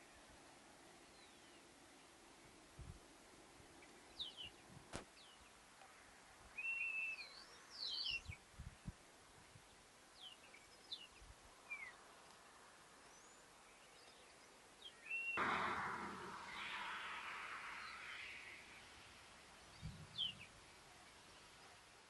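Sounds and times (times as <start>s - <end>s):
small birds chirping: 0.0s - 2.5s, 3.7s - 22.0s.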